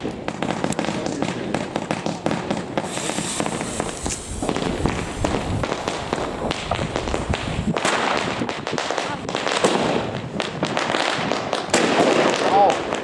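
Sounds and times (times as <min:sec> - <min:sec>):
fireworks cracking and popping: 0:00.0 - 0:13.0
fireworks hiss: 0:00.1 - 0:13.0.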